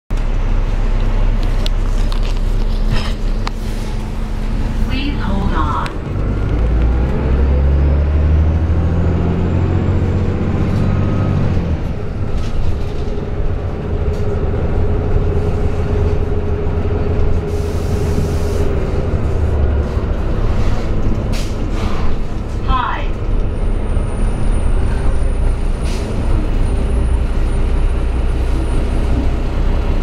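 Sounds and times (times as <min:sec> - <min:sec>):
bus diesel engine pulling away: 0:00.1 - 0:30.0.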